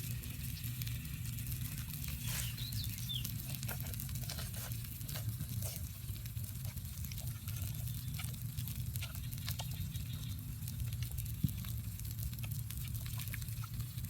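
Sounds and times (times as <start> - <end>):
crackles and pops: 0.0 - 14.0
eel sizzling on hot tile: 0.0 - 14.0
low steady hum: 0.0 - 14.0.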